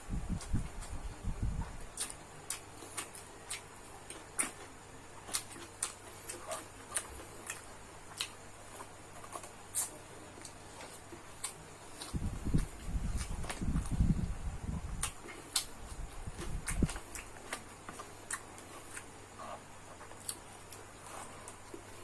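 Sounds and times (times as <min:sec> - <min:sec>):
person chewing food: 0:01.6 - 0:14.0, 0:14.9 - 0:22.0.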